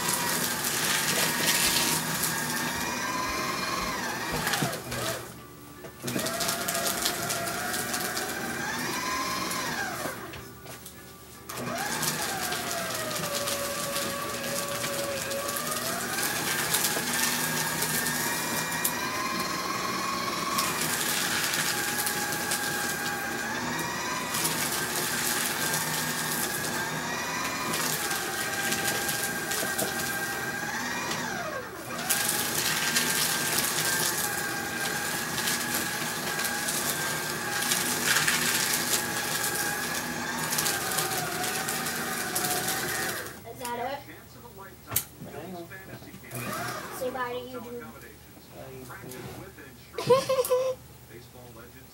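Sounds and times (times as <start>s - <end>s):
paper shredder motor whine: 0.0s - 43.8s, 45.3s - 48.1s.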